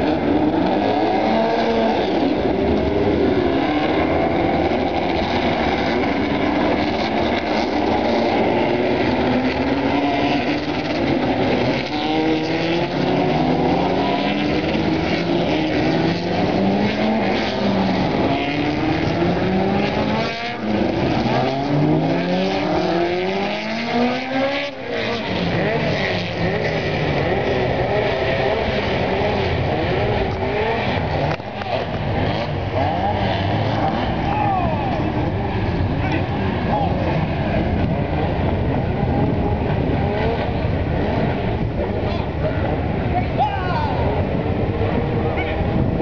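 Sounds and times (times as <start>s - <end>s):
racing car engines revving: 0.0s - 46.0s.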